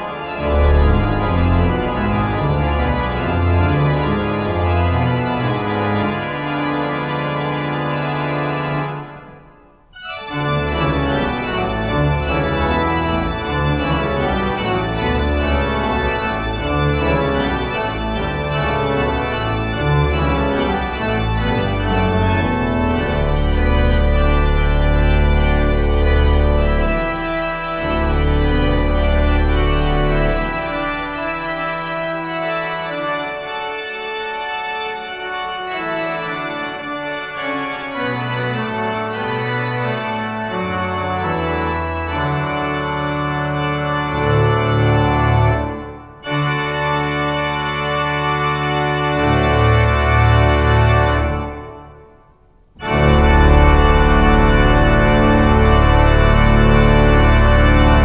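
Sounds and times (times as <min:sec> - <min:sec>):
deep organ pedal bass: 0:00.0 - 0:09.2, 0:10.0 - 0:52.0, 0:52.8 - 0:58.0
pipe organ sustained chords: 0:00.0 - 0:58.0.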